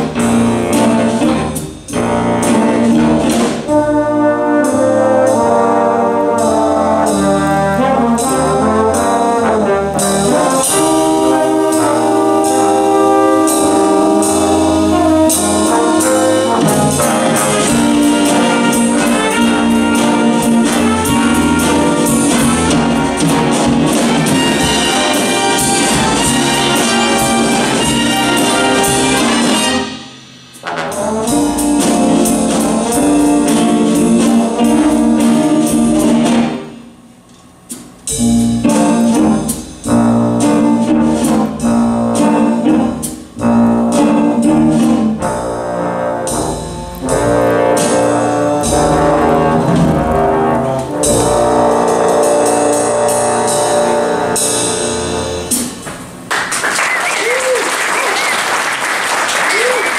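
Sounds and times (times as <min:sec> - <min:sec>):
jazz big band playing: 0:00.0 - 0:59.9.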